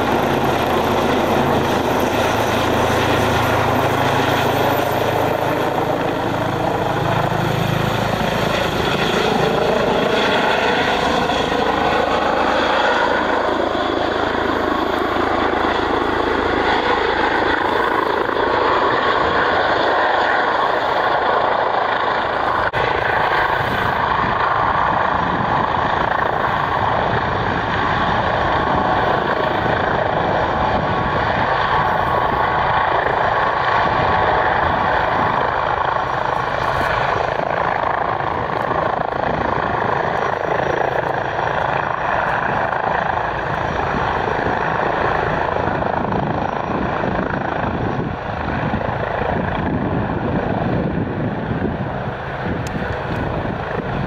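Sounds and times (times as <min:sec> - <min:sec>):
helicopter rotor and turbine: 0:00.0 - 0:54.0
turbine whine: 0:00.0 - 0:54.0.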